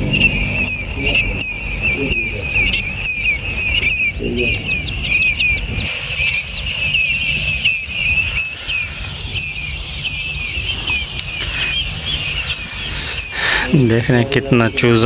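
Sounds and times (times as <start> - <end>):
low steady rumble: 0.0 - 14.8
chicks peeping: 0.0 - 15.0.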